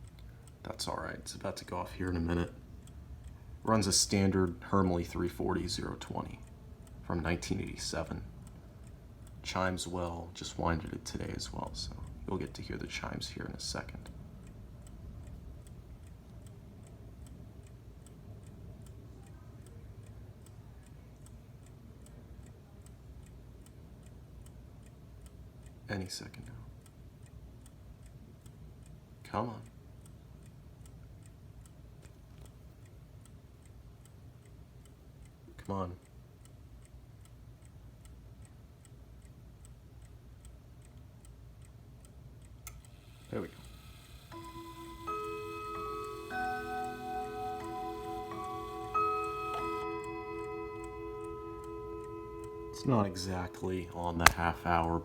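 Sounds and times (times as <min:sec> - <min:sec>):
mantel clock ticking: 0:00.0 - 0:55.0.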